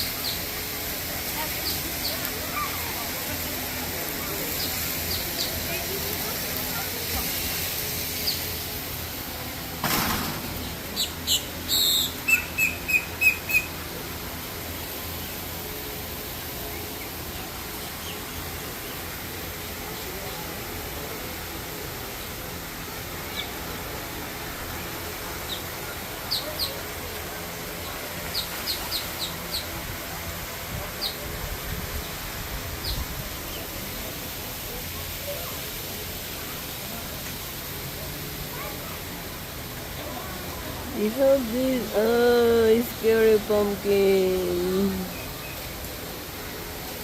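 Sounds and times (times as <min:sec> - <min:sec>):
background hiss: 0:00.0 - 0:47.0.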